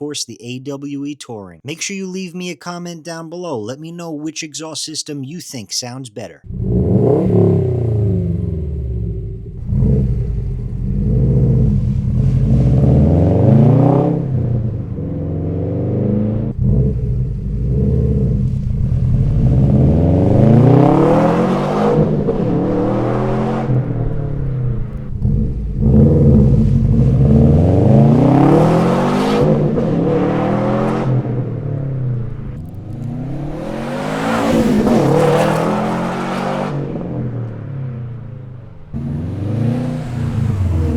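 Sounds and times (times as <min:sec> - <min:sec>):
car engine revving: 0:06.5 - 0:40.9.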